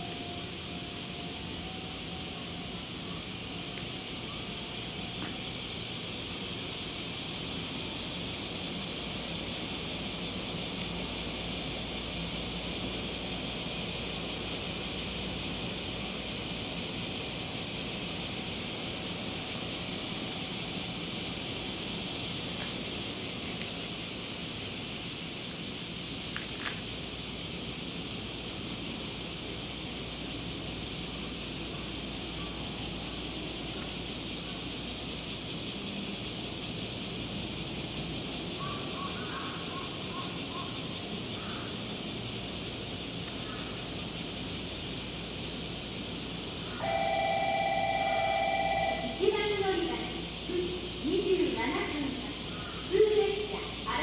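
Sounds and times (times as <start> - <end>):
insects trilling: 0.0 - 54.0
rapid pulsing insect chirr: 0.0 - 54.0.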